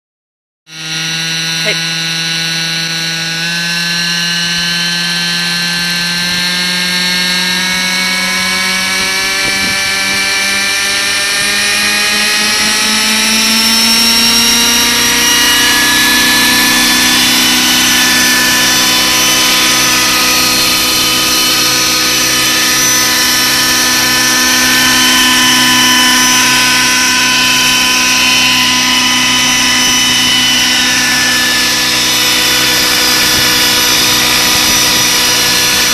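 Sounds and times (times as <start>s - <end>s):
model helicopter motor whine: 0.7s - 35.9s.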